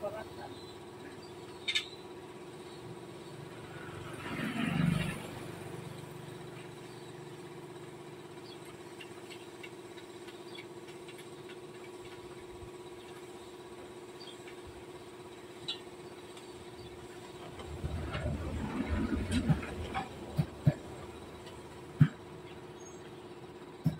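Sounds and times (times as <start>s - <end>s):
air compressor humming: 0.0s - 4.2s, 5.4s - 23.9s.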